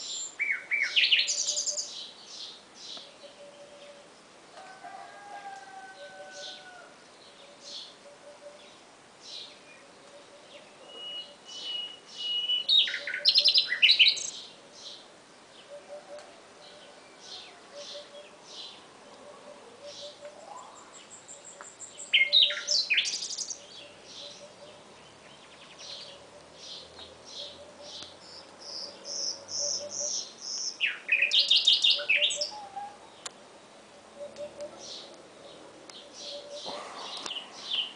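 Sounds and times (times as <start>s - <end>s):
nightingale singing: 0.0s - 4.2s, 6.0s - 37.9s
quiet bird chirping: 0.0s - 4.8s, 5.6s - 37.9s.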